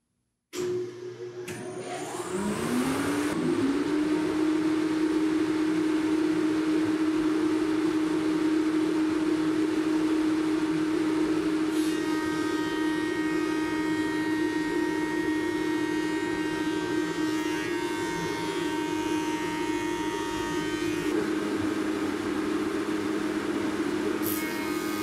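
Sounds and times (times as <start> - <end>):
thickness planer running: 0.6 - 25.0.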